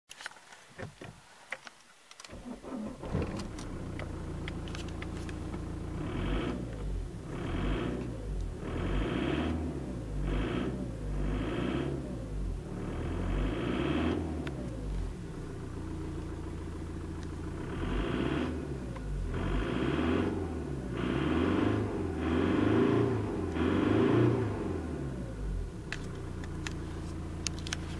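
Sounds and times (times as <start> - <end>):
diesel engine idling and revving: 2.4 - 27.9.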